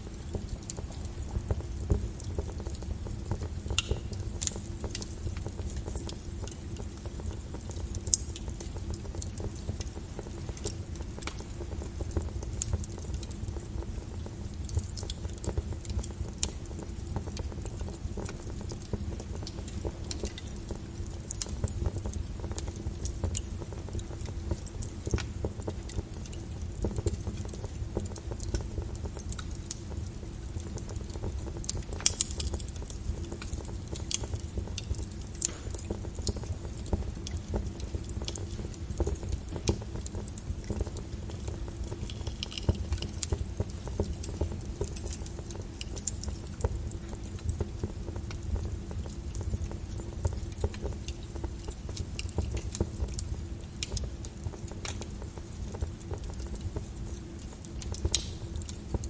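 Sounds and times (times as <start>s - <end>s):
fire crackling and popping: 0.0s - 59.0s
low brown noise rumble: 0.0s - 59.0s.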